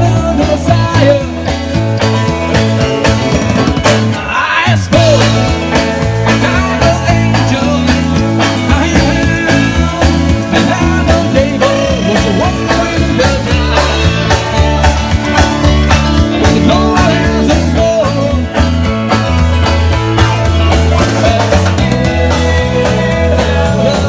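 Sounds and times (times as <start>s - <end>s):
drums keeping a steady beat: 0.0s - 24.0s
rock band playing: 0.0s - 24.0s.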